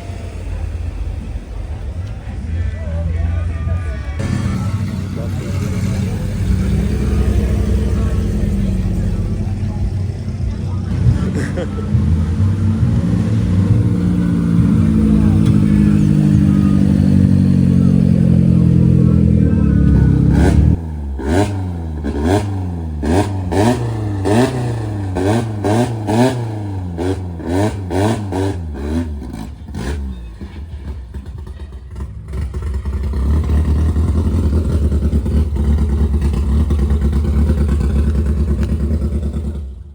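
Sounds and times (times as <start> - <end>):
car engine revving: 0.0 - 39.9
engine throttle blips: 0.0 - 39.9.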